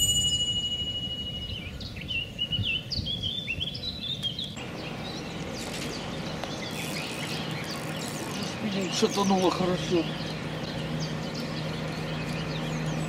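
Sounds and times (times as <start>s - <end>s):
small birds chirping: 0.0s - 13.0s
steady outdoor hiss: 0.0s - 13.0s.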